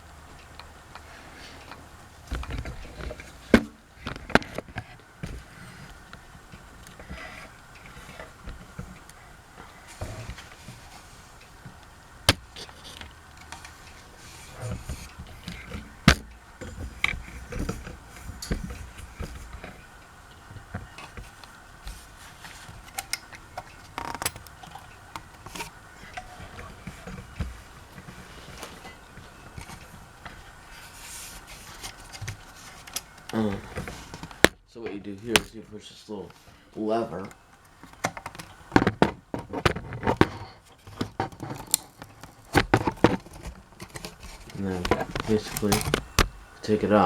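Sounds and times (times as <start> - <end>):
fan parts clicking and knocking: 0.0 - 47.0.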